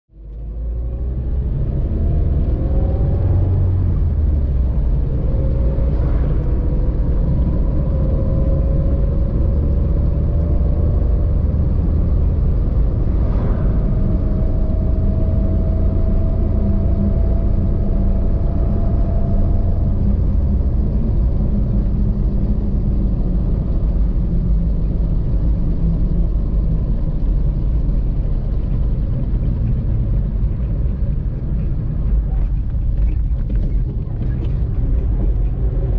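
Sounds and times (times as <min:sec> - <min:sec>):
vehicle engine rumble: 0:00.1 - 0:35.9
faint rising whine: 0:00.2 - 0:35.9.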